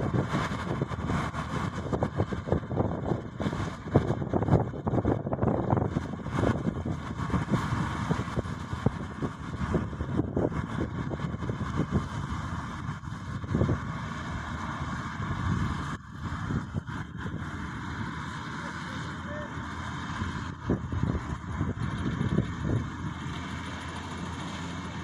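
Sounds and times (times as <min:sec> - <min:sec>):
combine harvester rumbling: 0:00.0 - 0:25.0.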